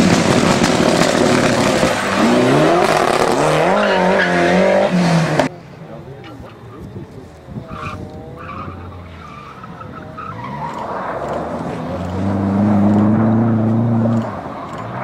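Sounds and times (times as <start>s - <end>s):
car engine revving: 0.0s - 5.5s, 8.4s - 15.0s.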